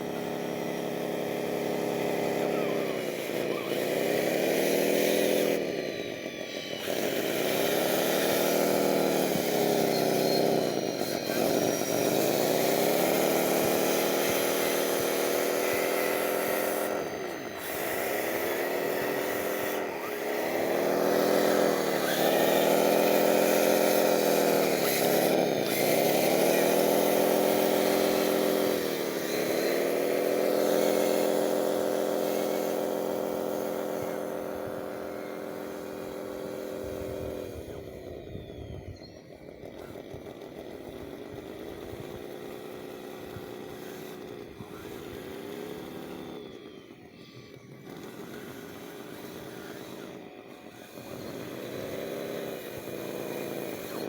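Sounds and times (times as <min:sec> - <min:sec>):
hydraulic pump motor whining: 0:00.0 - 0:54.0.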